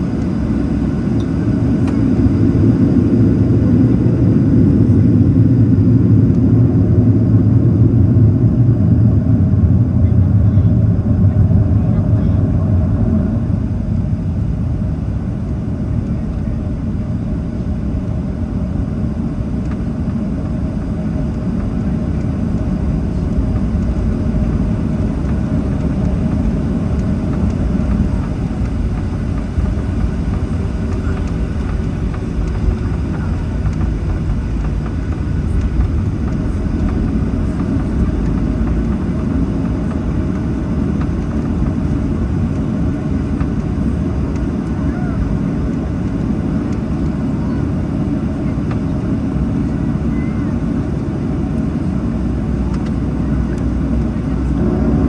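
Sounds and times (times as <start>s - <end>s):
jet engine noise in cabin: 0.0s - 55.0s.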